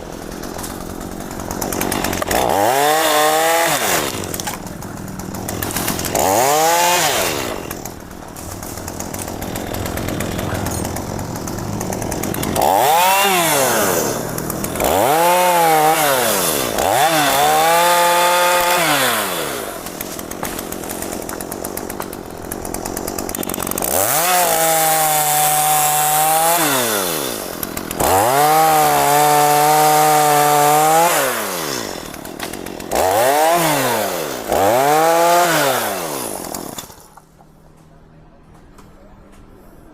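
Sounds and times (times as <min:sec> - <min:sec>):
chainsaw cutting wood: 0:00.0 - 0:37.3.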